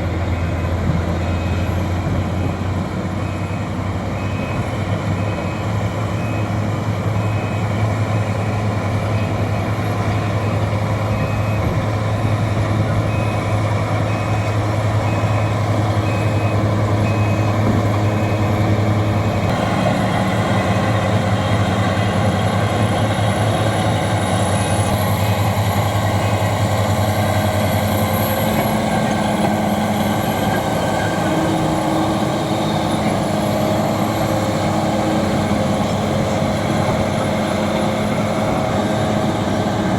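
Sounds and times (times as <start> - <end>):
bulldozer engine under load: 0.0 - 39.9
reversing alarm beeping: 0.3 - 2.5, 3.2 - 38.8.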